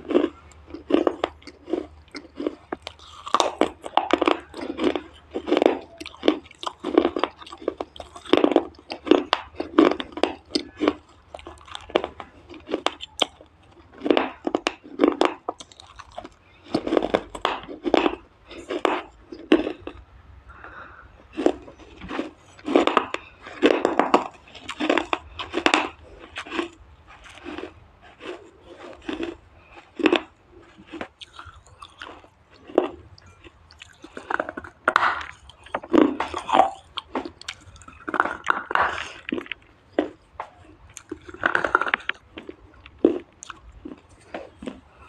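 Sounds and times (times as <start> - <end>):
person chewing clay crunches: 0.0 - 45.0.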